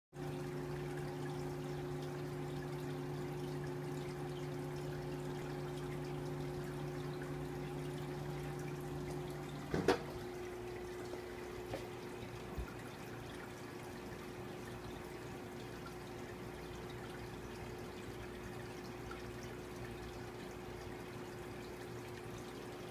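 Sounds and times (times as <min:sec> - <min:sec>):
aquarium filter trickling water: 0:00.2 - 0:22.9
low electric hum: 0:00.2 - 0:22.9.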